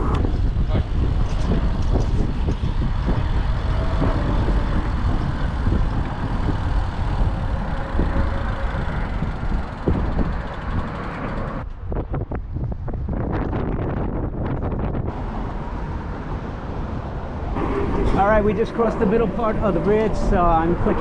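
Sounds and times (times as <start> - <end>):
road traffic passing: 0.0 - 12.1, 15.0 - 21.0
wind rumbling on microphone: 0.0 - 21.0.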